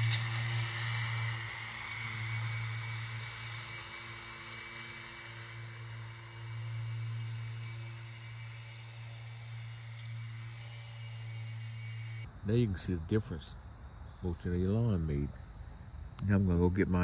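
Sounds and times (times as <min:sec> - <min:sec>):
riding mower humming: 0:00.0 - 0:17.0.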